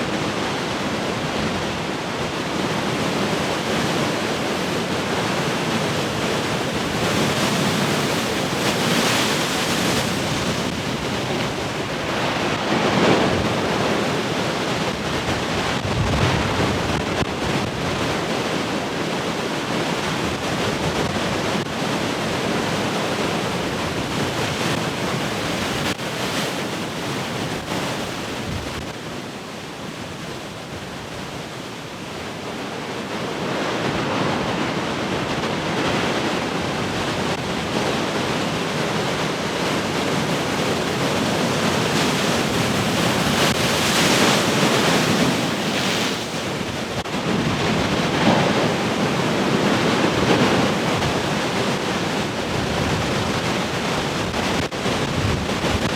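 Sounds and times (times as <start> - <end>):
wind buffeting microphone: 0.0 - 29.0, 33.2 - 55.9
heavy ocean surf crashing: 0.0 - 55.9.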